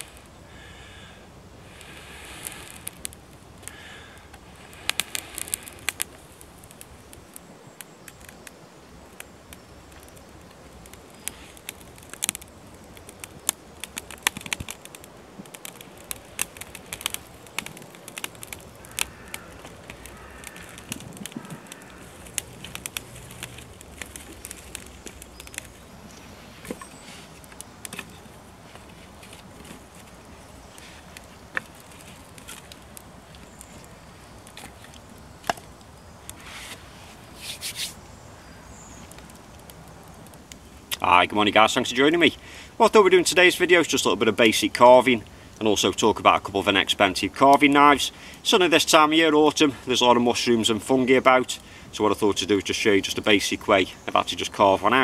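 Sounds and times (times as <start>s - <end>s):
fire snaps and pops: 0.0s - 55.0s
small wood fire crackling: 0.0s - 55.0s.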